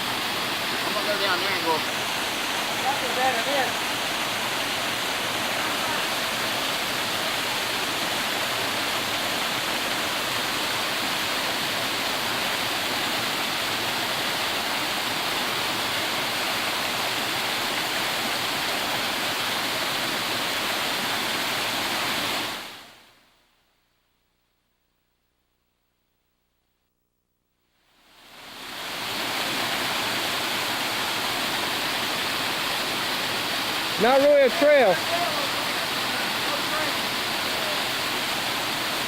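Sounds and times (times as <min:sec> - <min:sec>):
waterfall rushing over rock: 0:00.0 - 0:22.9, 0:28.1 - 0:39.0.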